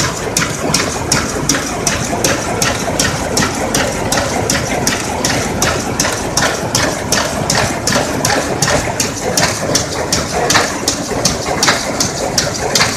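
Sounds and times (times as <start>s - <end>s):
steady mechanical din: 0.0s - 12.9s
weaving loom clacking: 0.0s - 12.9s.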